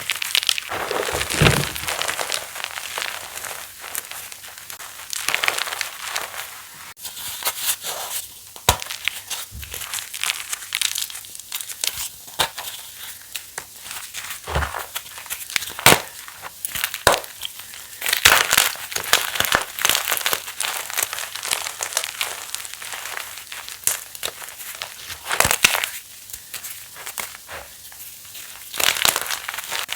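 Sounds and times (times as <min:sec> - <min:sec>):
chalk crunching and crumbling: 0:00.1 - 0:17.4, 0:18.2 - 0:29.9.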